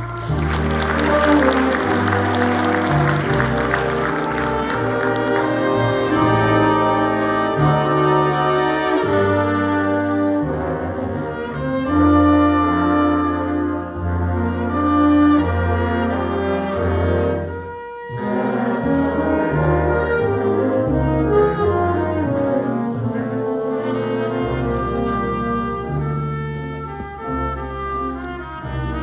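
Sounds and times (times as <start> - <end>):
big band jazz playing: 0.0 - 29.0.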